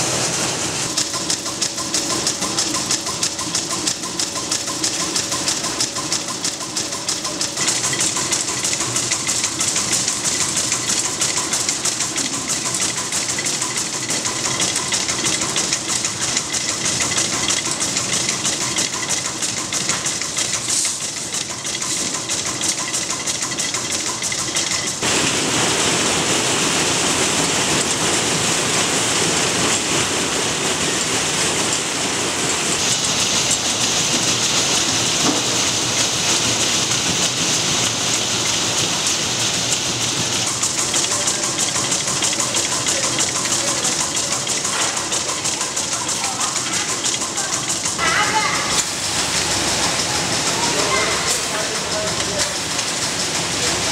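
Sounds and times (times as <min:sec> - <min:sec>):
small metal parts rattling on feeder: 0:00.9 - 0:25.0, 0:32.8 - 0:53.9.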